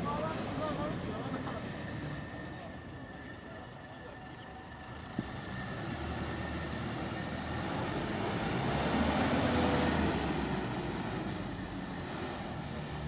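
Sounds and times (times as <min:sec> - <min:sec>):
combine harvester driving: 0:00.0 - 0:13.0.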